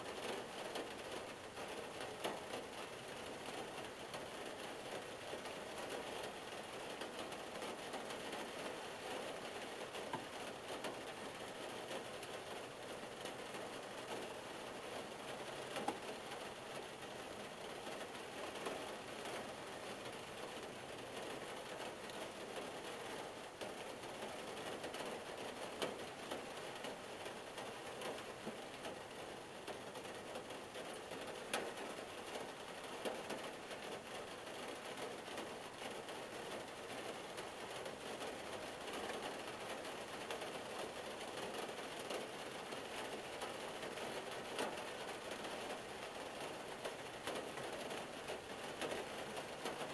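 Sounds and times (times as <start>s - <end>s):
rain pattering on car roof: 0.0s - 49.9s.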